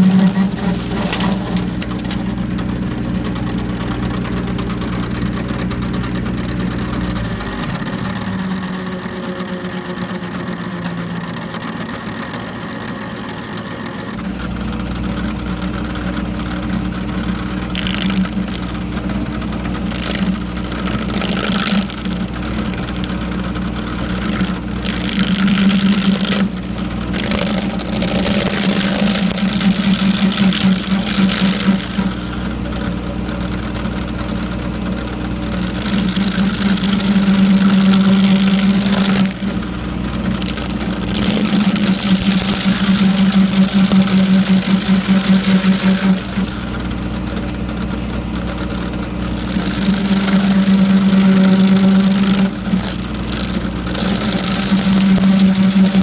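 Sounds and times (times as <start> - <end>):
cutter wheel grinding stump: 0.0 - 56.0
stump grinder engine drone: 0.0 - 56.0.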